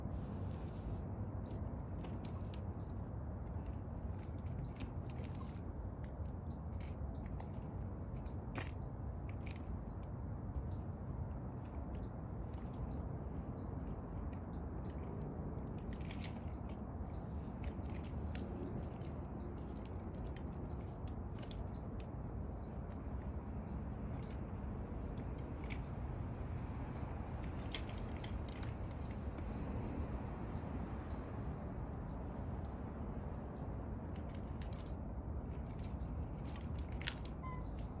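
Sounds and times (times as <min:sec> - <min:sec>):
small birds chirping: 0:00.4 - 0:29.7, 0:30.5 - 0:31.3, 0:32.0 - 0:38.0.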